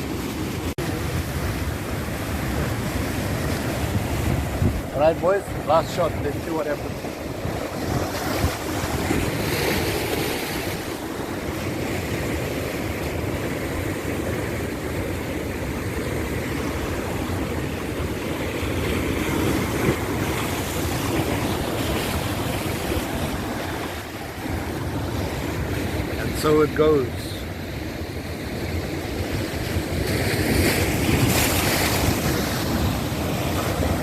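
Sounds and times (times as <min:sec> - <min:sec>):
ocean surf washing: 0:00.0 - 0:34.0
wind on microphone: 0:00.8 - 0:26.1, 0:28.2 - 0:34.0.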